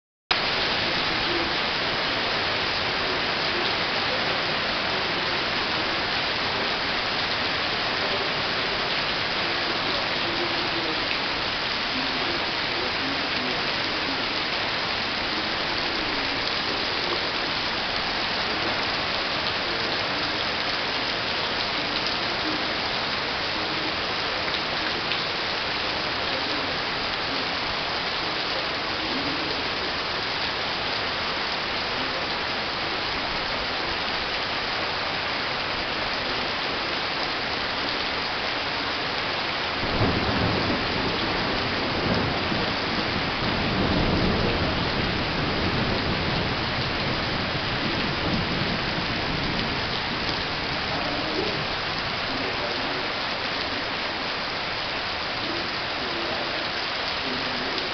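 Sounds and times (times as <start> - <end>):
heavy rain hissing: 0.3 - 57.9.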